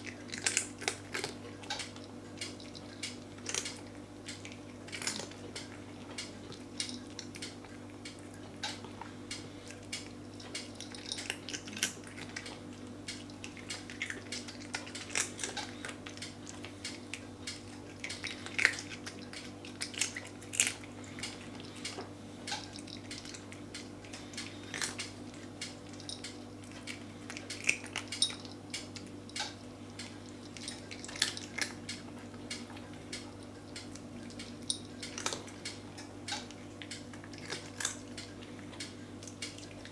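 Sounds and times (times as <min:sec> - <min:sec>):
cat crunching dry food: 0:00.0 - 0:39.9.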